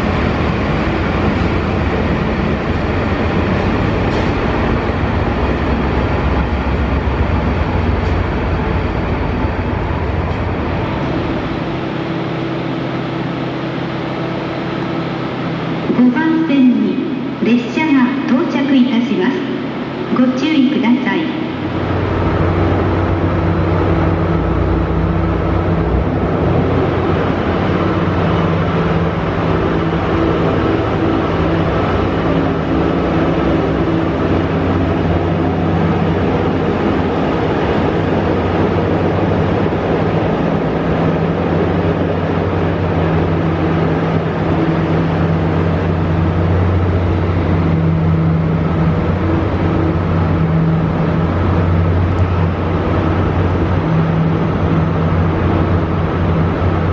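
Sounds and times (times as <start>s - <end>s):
train diesel engine droning: 0.0s - 56.9s.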